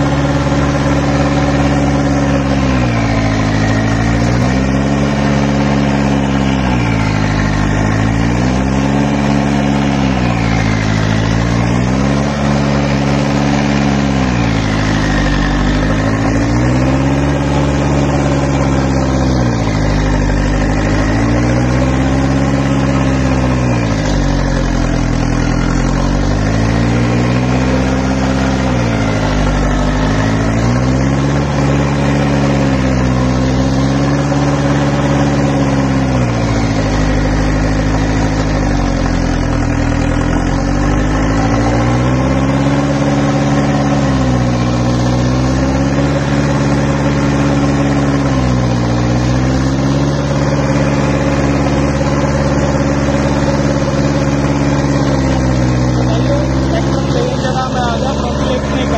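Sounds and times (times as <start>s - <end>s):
tractor engine labouring: 0.0s - 58.9s.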